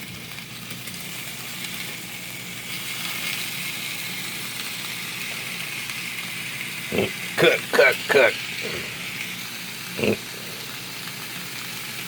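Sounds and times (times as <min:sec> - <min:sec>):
chicken sizzling on grill: 0:00.0 - 0:12.0.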